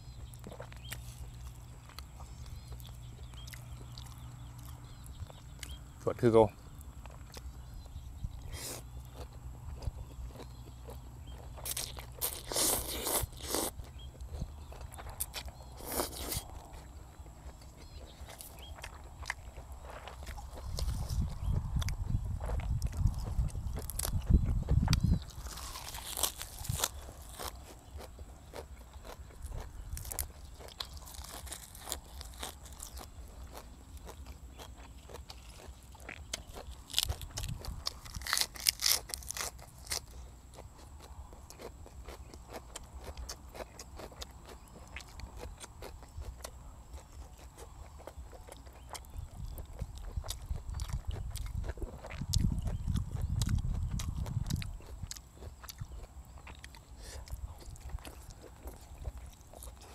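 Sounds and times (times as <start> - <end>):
crunchy bites: 0.0 - 59.9
wet chewing: 0.0 - 59.9.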